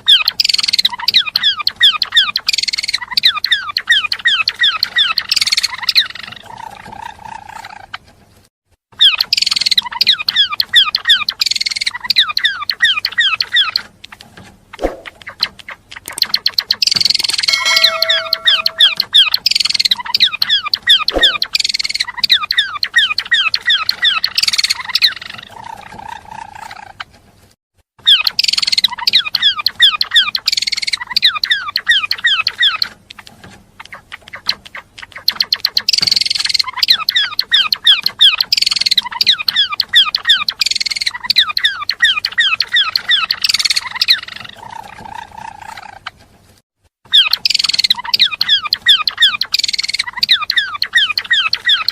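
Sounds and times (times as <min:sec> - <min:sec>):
songbird chattering song: 0:00.0 - 0:08.0, 0:09.0 - 0:14.1, 0:15.0 - 0:27.0, 0:28.0 - 0:33.2, 0:33.8 - 0:46.1, 0:47.1 - 0:51.9.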